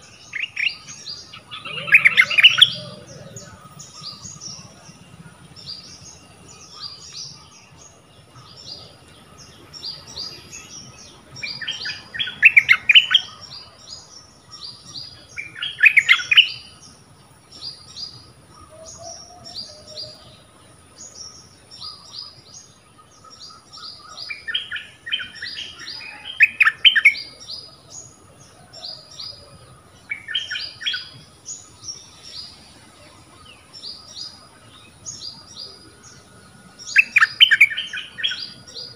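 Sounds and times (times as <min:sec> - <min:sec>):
bird singing song phrases: 0:00.0 - 0:38.9.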